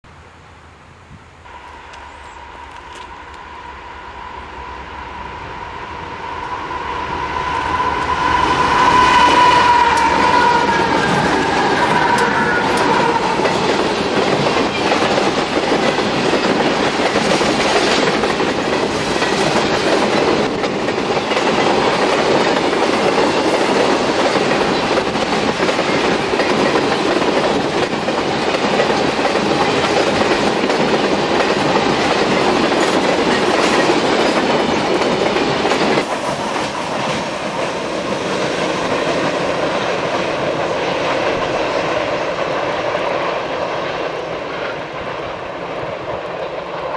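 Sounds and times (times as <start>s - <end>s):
freight train rumbling past: 0.1s - 46.9s.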